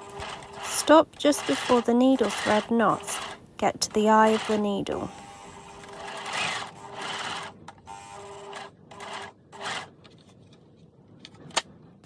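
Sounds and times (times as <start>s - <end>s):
overlocker running: 0.0s - 9.9s.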